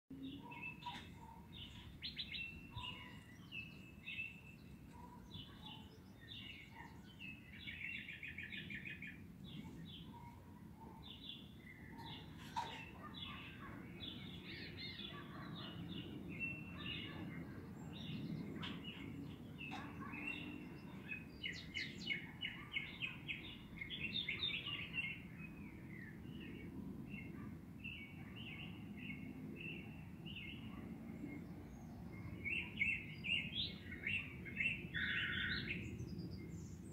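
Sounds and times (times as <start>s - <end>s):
small birds chirping and trilling: 0.1s - 36.9s.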